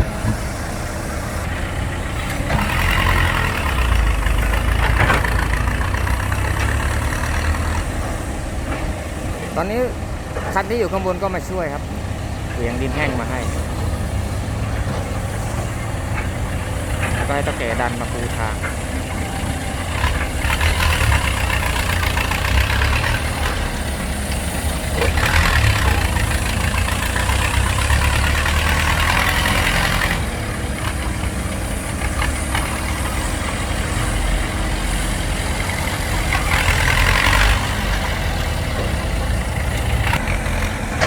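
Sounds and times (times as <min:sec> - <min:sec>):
heavy diesel engines rumbling: 0:00.0 - 0:41.0.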